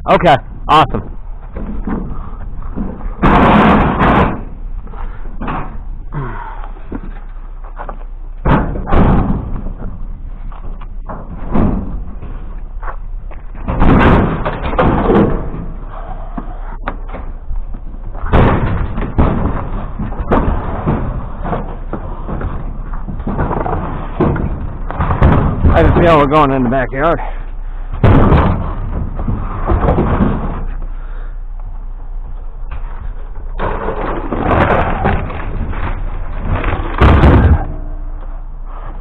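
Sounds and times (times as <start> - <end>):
scrap clattering onto trailer: 1.0 - 26.6, 27.2 - 31.3, 32.3 - 39.0.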